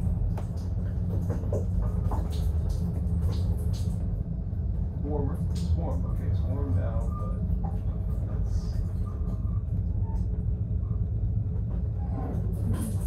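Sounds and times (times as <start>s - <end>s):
moving train rumbling: 0.0s - 13.0s.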